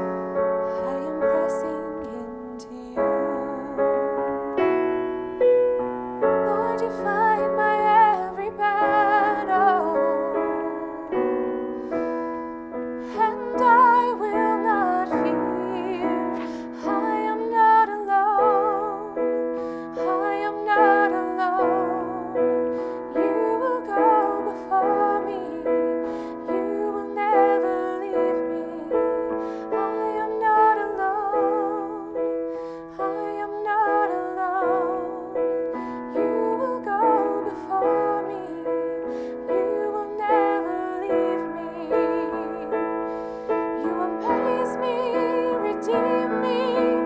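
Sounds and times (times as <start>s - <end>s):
digital piano chords: 0.0s - 47.0s
woman singing with vibrato: 0.7s - 4.1s, 6.3s - 11.3s, 13.0s - 47.0s.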